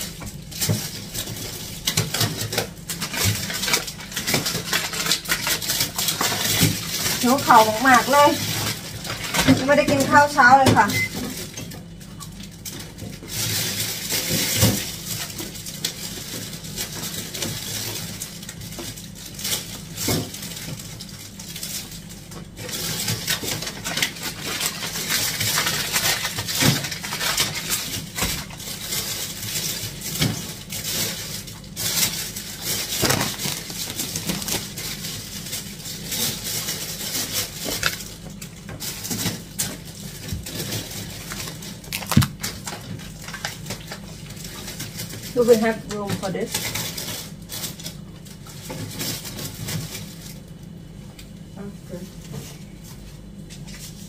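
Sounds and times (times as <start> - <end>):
plastic packaging rustling: 0.0 - 51.0.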